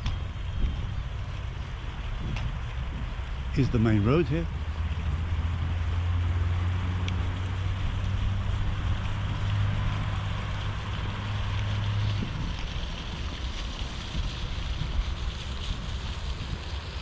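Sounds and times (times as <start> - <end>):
rush of passing traffic: 0.0 - 17.0
vehicle engine droning: 0.0 - 17.0
wind on microphone: 0.0 - 17.0.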